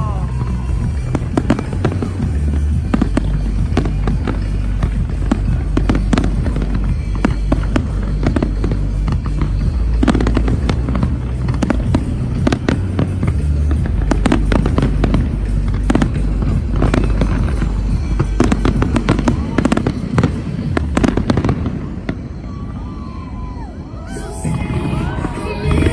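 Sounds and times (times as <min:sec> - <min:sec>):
music with heavy bass: 0:00.0 - 0:21.7, 0:24.1 - 0:25.9
fireworks bangs and crackles: 0:00.0 - 0:25.9.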